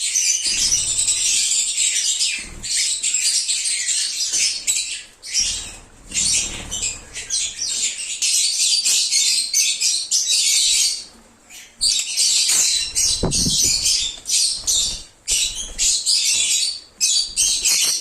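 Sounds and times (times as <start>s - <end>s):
lovebirds chirping: 0.0s - 18.0s.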